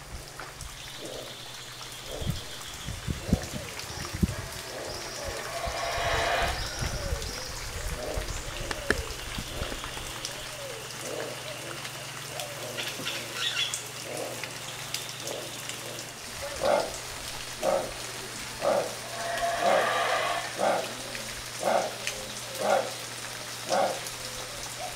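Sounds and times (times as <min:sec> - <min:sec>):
howler monkey calling: 0:00.9 - 0:24.9.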